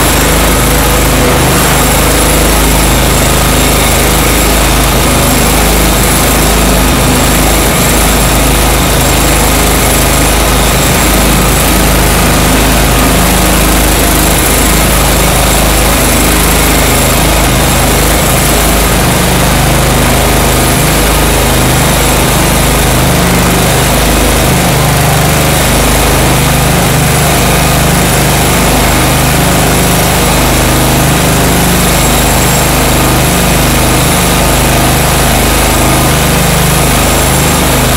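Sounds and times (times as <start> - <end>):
floor grinder grinding concrete: 0.0 - 37.9.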